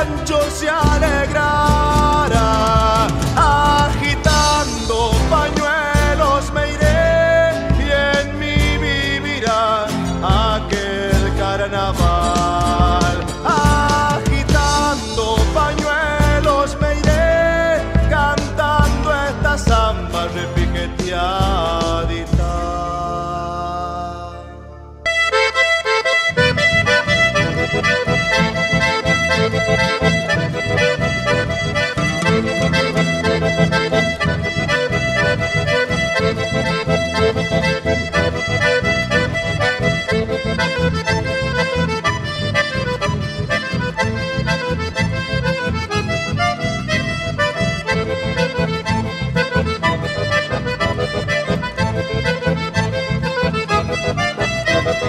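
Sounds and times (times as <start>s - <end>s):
rhythmic accompaniment: 0.0s - 23.8s, 25.0s - 55.0s
accordion melody: 0.0s - 55.0s.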